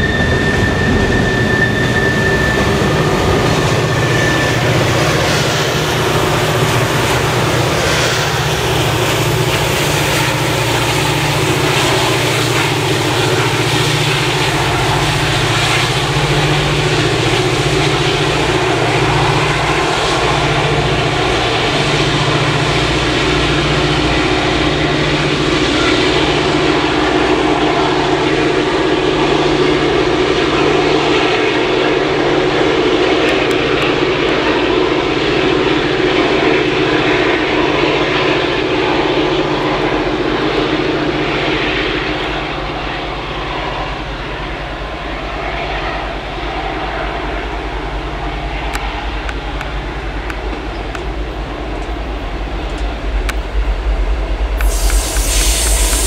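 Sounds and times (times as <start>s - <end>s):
diesel locomotives droning: 0.0s - 56.0s.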